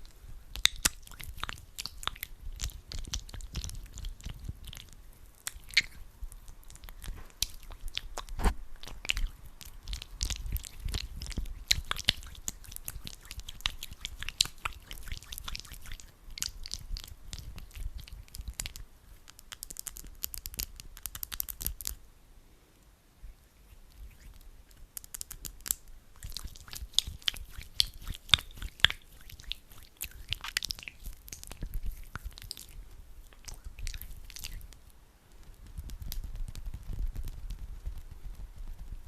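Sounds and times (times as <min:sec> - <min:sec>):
hands squeezing sticky gel: 0:00.0 - 0:22.0, 0:23.5 - 0:37.6.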